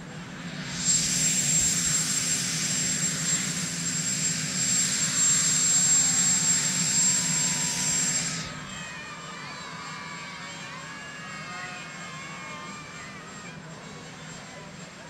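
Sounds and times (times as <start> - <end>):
helicopter turbine whine: 0.0 - 15.0.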